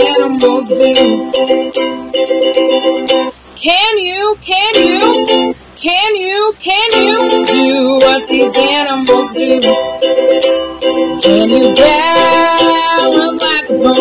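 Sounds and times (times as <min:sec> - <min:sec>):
person singing: 0:00.0 - 0:01.7, 0:03.6 - 0:10.2, 0:11.0 - 0:14.0
ukulele strumming chords: 0:00.0 - 0:14.0.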